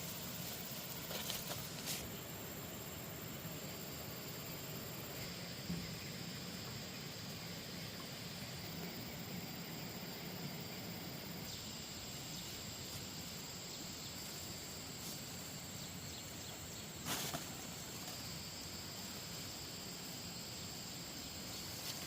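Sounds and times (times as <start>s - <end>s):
insects chirring: 0.0s - 22.0s
soft background hiss: 0.0s - 22.0s.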